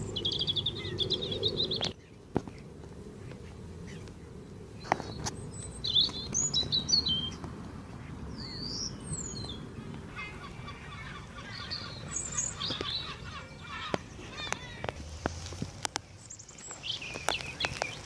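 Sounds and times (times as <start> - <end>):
rustle: 0.0 - 18.0
small birds chirping: 0.0 - 18.0.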